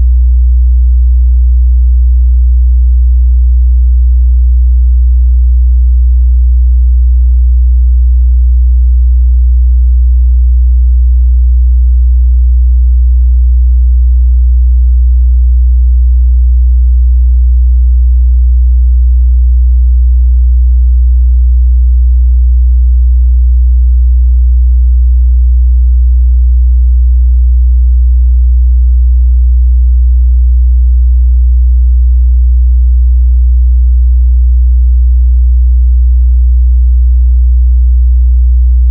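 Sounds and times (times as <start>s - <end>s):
low sine-wave test tone: 0.0s - 38.9s.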